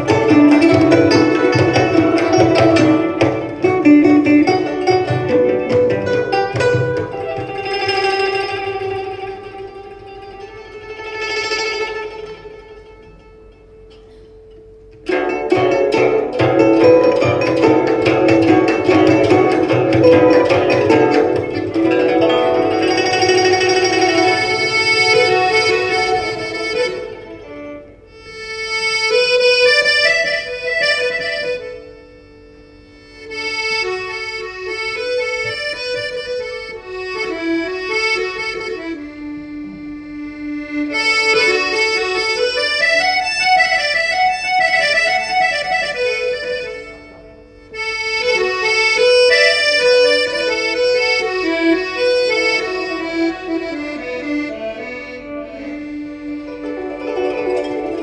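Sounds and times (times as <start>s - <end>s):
folk melody instrument: 0.0s - 58.0s.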